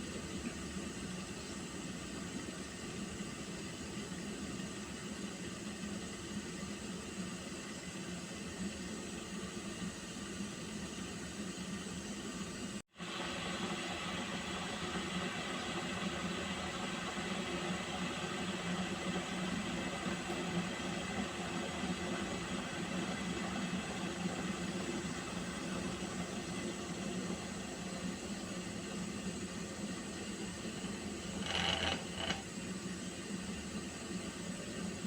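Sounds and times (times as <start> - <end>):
water heating hiss and hum: 0.0 - 35.0.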